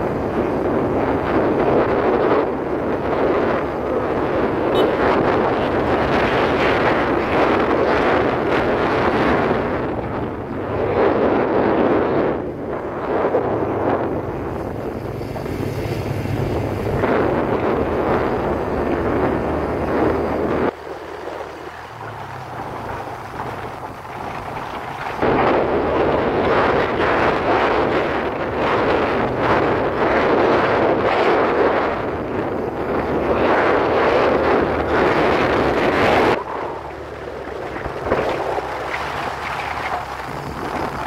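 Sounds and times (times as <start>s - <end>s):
motorcycle engine humming: 0.0s - 41.0s
wind rushing over microphone: 0.0s - 41.0s.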